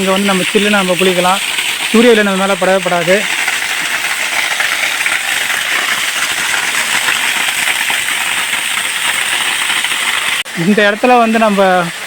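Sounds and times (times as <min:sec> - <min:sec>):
waterfall rushing and splashing: 0:00.0 - 0:12.0.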